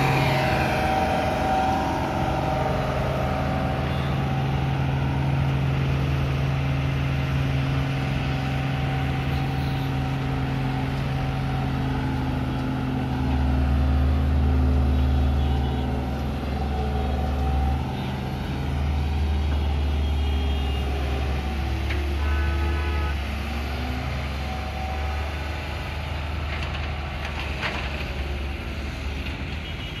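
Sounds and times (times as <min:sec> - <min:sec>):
diesel truck engine driving: 0:00.0 - 0:29.8.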